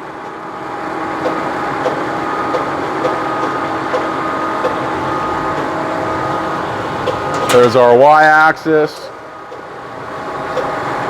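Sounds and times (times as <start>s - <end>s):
lathe humming with gear whine: 0.0s - 11.0s.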